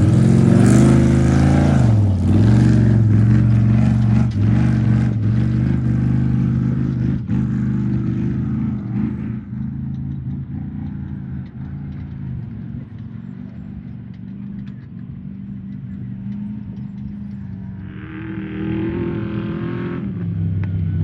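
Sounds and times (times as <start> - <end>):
race vehicle engine revving: 0.0 - 21.0.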